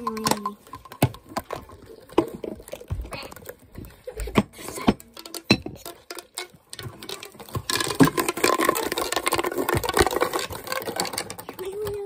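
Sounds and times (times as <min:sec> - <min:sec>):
plastic pop tubes clicking: 0:00.0 - 0:12.0.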